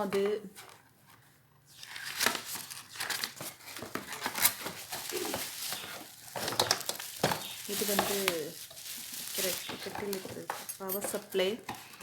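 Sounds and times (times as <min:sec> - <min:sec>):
packaging rustling and crinkling: 0:01.8 - 0:12.0.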